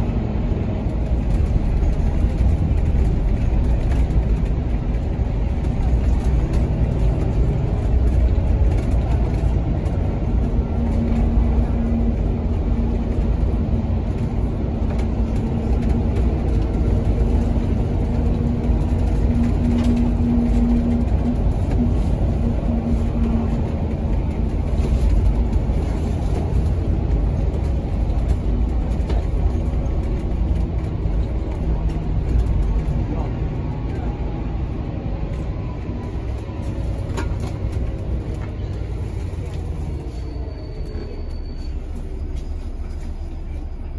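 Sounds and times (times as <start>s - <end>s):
bus engine rumbling inside cabin: 0.0s - 43.9s.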